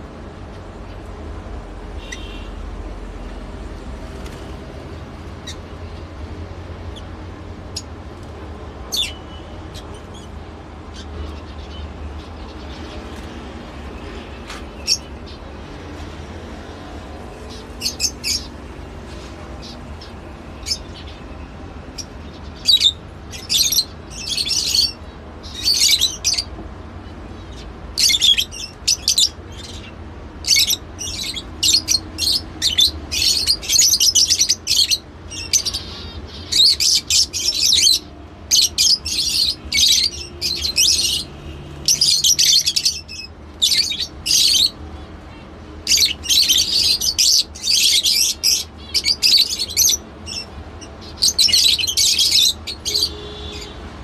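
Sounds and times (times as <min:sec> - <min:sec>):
lovebirds chirping and squawking: 0:01.9 - 0:02.8, 0:04.2 - 0:53.9.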